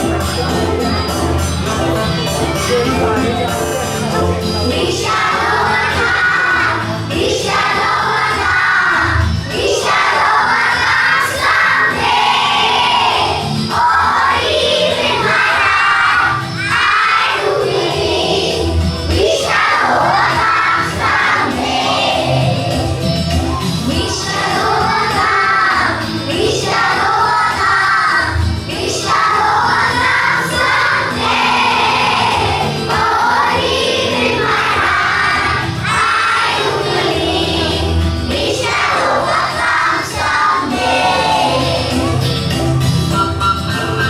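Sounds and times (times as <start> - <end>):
instrumental backing music: 0.0 - 44.0
people singing: 0.0 - 44.0.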